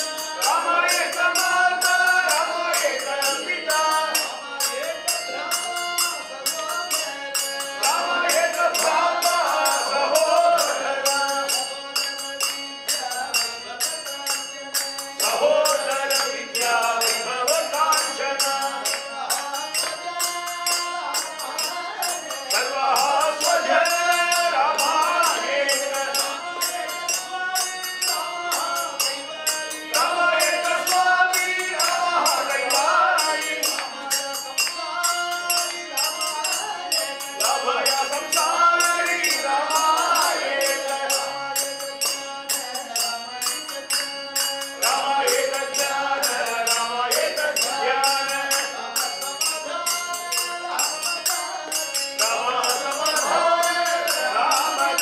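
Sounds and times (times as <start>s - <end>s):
hand cymbals beat: 0.0s - 55.0s
harmonium tones: 0.0s - 55.0s
men singing: 0.0s - 55.0s.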